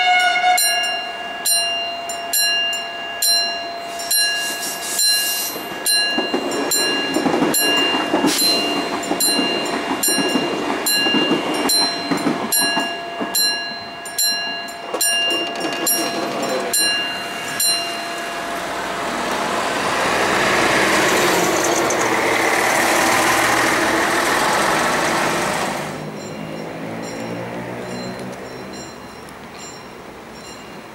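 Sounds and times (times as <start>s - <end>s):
train whine: 0.0s - 30.9s
train wheels clicking over rail joints: 4.0s - 29.8s.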